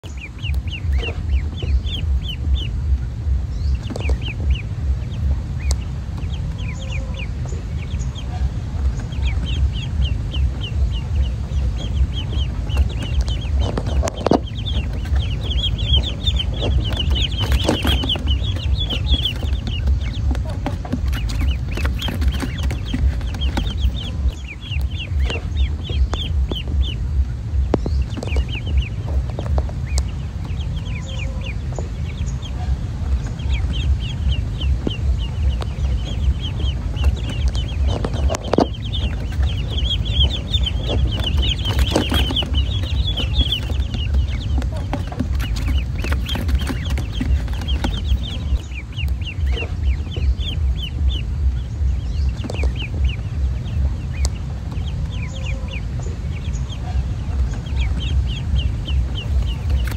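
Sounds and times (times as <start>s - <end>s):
ducklings peeping: 0.0s - 59.9s
steady low rumble: 0.0s - 59.9s.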